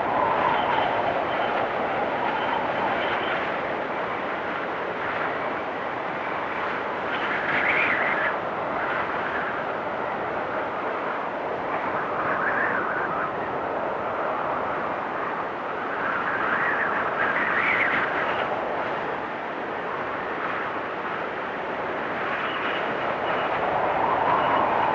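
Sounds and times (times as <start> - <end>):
blizzard wind roaring: 0.0 - 24.9.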